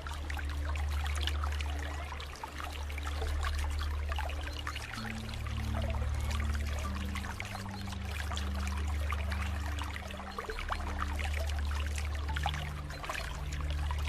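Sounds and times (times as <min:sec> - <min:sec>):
low steady drone of held tones: 0:00.0 - 0:14.0
water flowing and trickling: 0:00.0 - 0:14.0.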